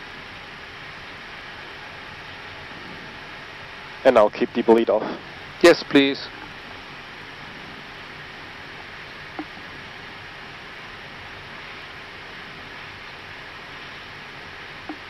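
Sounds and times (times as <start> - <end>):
cockpit hiss: 0.0 - 15.0.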